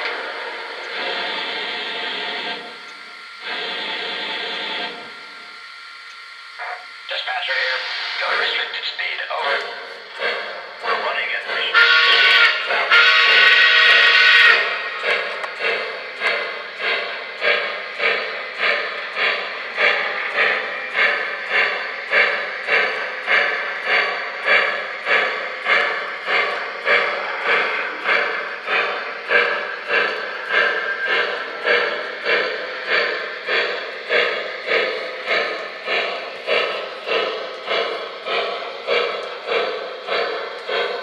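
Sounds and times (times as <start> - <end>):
model steam locomotive chuffing: 0.0 - 41.0.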